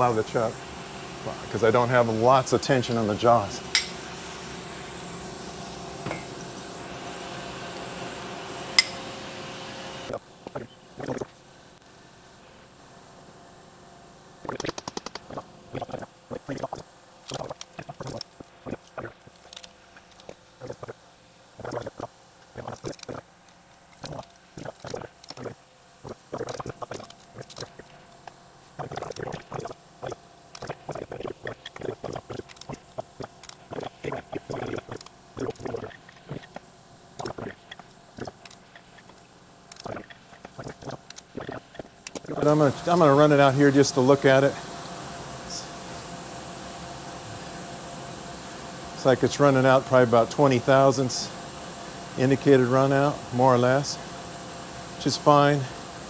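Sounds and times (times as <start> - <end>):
machine shop hum: 0.0 - 56.0.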